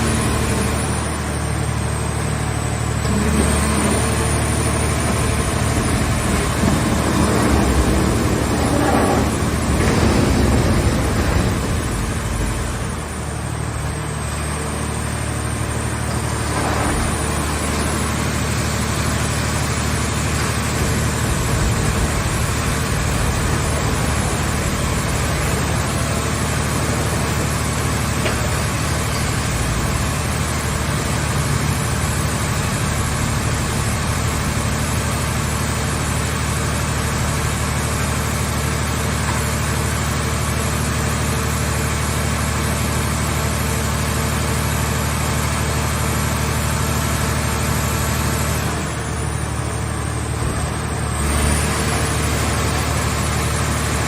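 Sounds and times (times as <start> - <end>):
engine and hydraulic unit humming: 0.0 - 54.0.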